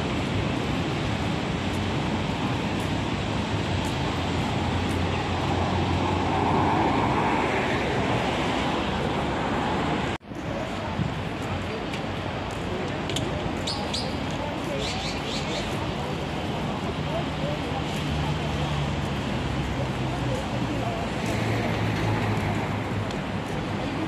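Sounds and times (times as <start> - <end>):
roadside traffic: 0.0 - 24.0
wind rumbling on microphone: 0.0 - 24.0.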